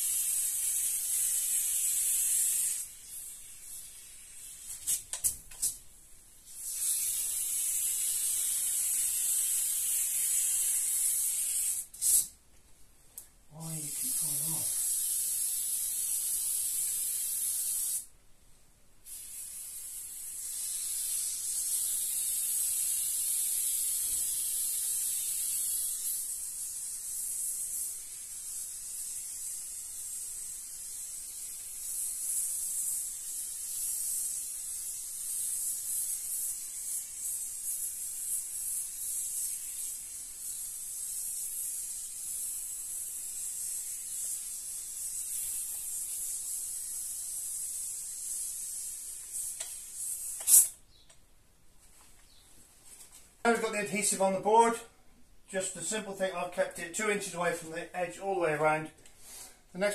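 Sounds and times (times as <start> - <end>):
foam gun hissing: 0.0 - 5.8, 6.4 - 12.4, 13.6 - 18.1, 19.0 - 50.8.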